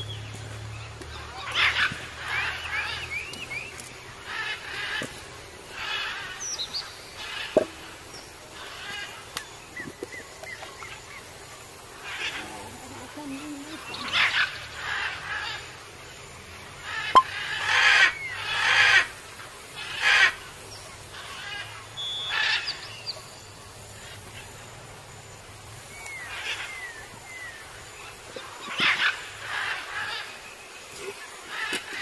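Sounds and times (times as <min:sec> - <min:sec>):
harsh bird calls: 0:00.0 - 0:16.0, 0:16.7 - 0:24.6, 0:25.6 - 0:32.0.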